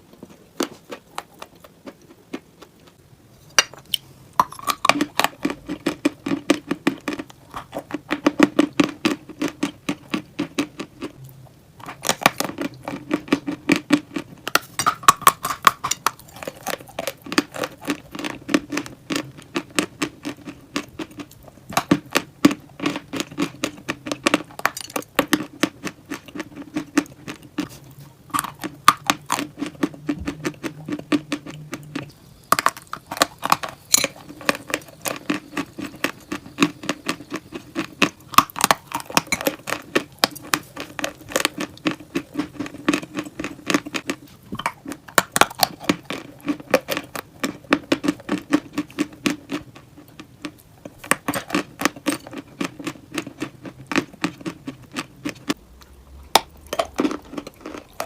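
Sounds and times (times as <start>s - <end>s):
chewing crunchy chalk: 3.8s - 11.2s, 11.8s - 58.0s.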